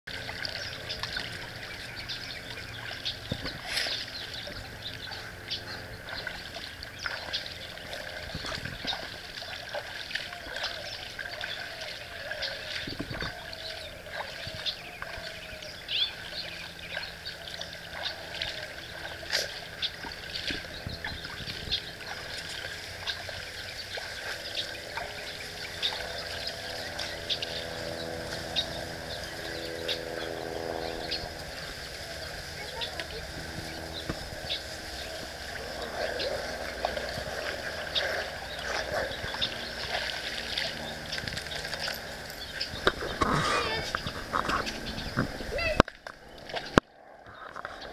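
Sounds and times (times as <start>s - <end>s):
faint low hum: 0.1s - 47.9s.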